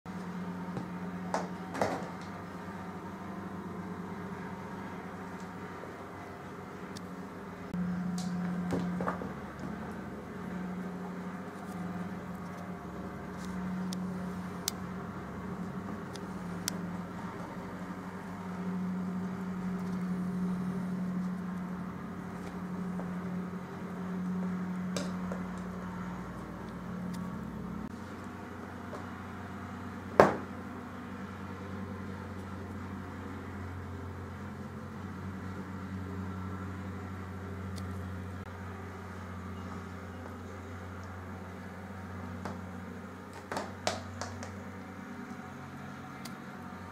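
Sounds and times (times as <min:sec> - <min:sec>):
low hum: 0:00.1 - 0:43.3.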